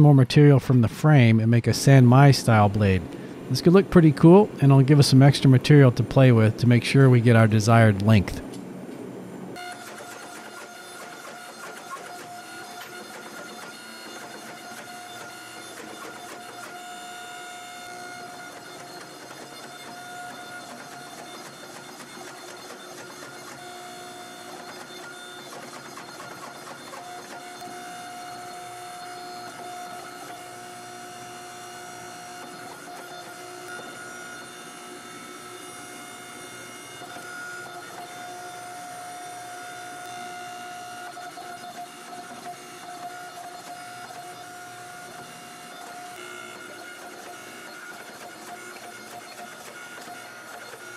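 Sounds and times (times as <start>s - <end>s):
hydraulic pump motor whine: 9.3s - 50.9s.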